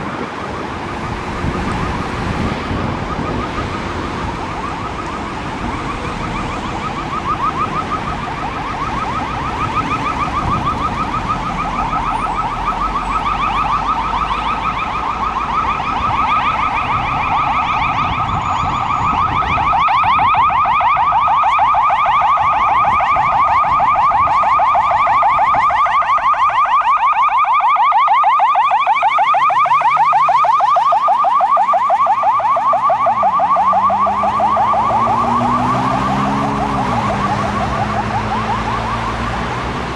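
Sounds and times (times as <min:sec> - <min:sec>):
siren yelping: 0:00.0 - 0:39.9
street traffic noise: 0:00.0 - 0:39.9.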